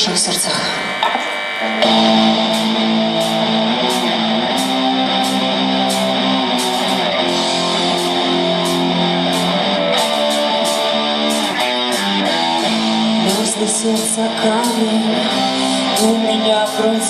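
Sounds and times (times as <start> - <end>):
live pop-rock guitar chords: 0.0 - 17.0.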